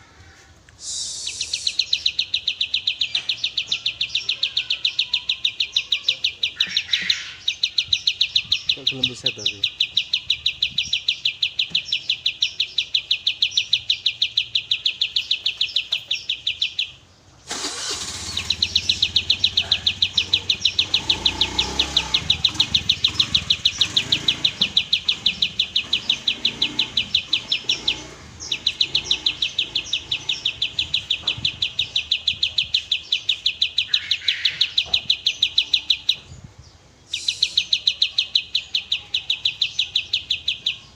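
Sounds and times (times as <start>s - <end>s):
songbird fast high trill: 0.8s - 16.9s, 17.5s - 36.2s, 37.1s - 40.9s.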